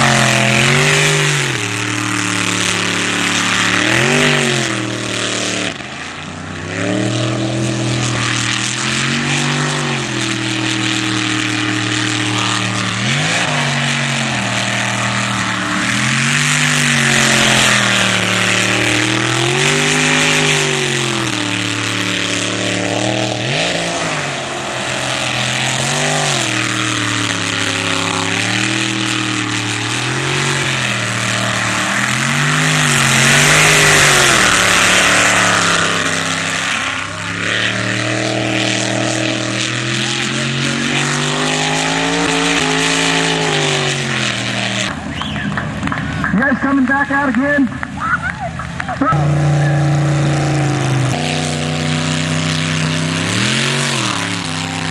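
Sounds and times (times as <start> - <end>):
jet boat engine revving: 0.0 - 54.9.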